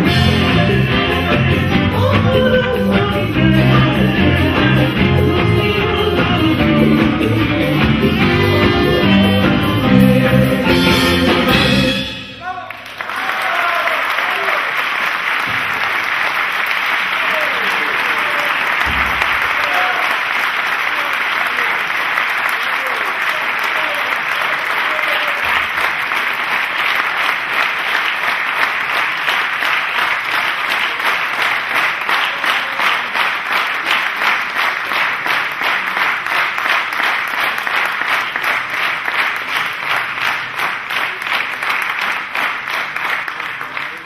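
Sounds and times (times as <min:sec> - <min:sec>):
audience clapping in rhythm: 0:00.0 - 0:44.0.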